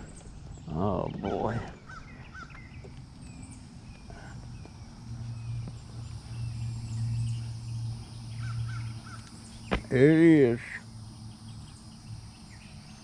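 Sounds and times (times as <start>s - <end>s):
birds chirping: 0.0s - 13.0s
low hum: 0.0s - 13.0s.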